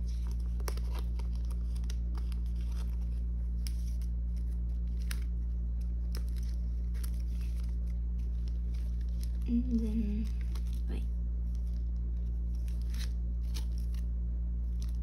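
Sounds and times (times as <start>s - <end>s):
plastic sleeves crinkling: 0.0s - 15.0s
steady low hum: 0.0s - 15.0s.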